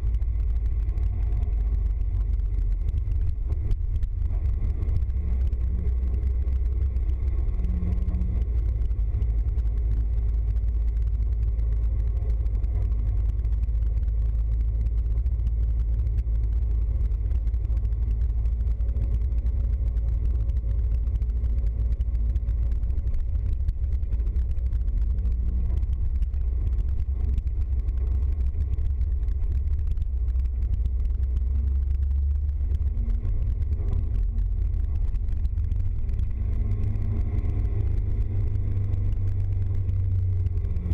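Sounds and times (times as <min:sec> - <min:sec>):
vehicle engine and road noise: 0:00.0 - 0:40.9.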